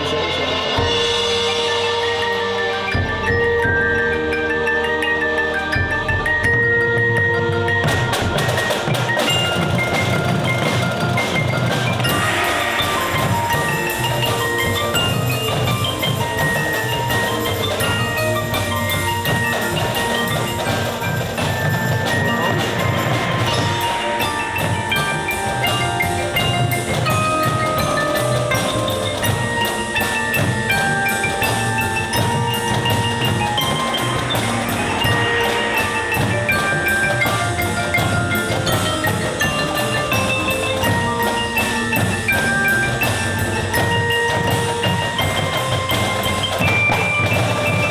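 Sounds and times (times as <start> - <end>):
marching band playing: 0.0 - 47.9
ringing mallet percussion notes: 0.0 - 47.9.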